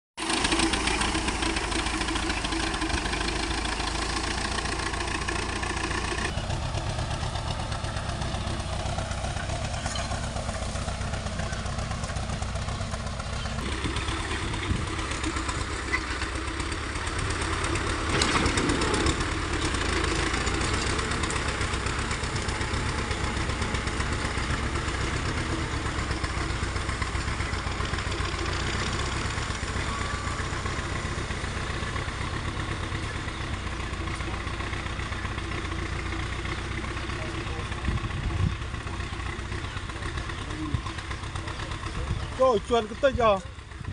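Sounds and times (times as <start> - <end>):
tractor engine running: 0.2 - 43.9.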